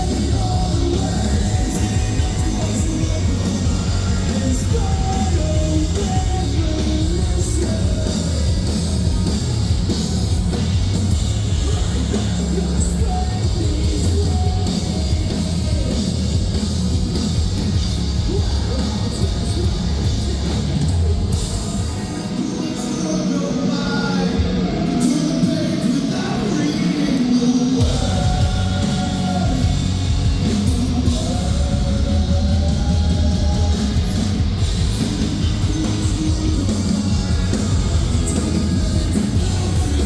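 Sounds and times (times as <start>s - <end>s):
metal band playing live: 0.0s - 40.0s.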